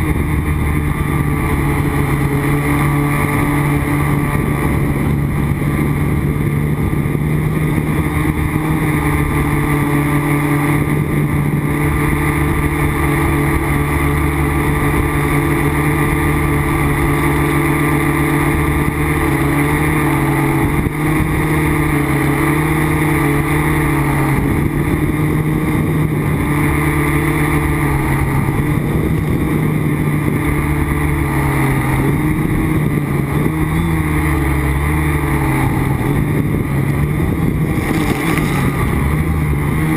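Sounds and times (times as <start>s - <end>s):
quadcopter motors buzzing: 0.0s - 39.9s.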